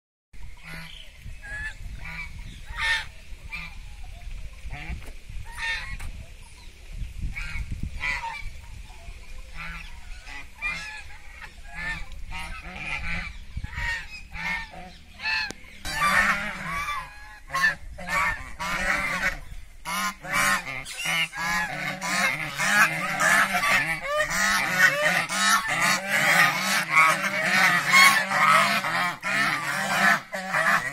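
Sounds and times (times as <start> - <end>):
geese honking: 0.6 - 6.1, 7.3 - 30.9.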